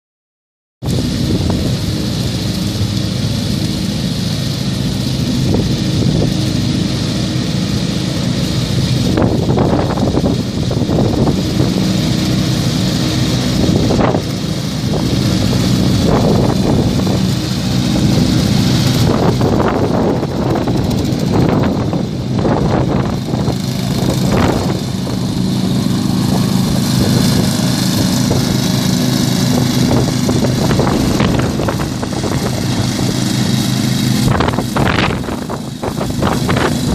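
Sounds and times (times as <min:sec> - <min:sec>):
lawn tractor engine running: 0:00.8 - 0:36.9.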